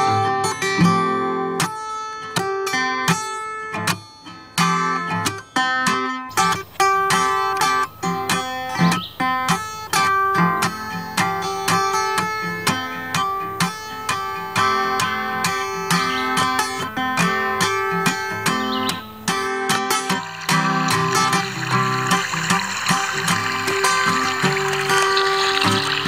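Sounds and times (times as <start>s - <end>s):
plucked guitar music: 0.0s - 26.0s.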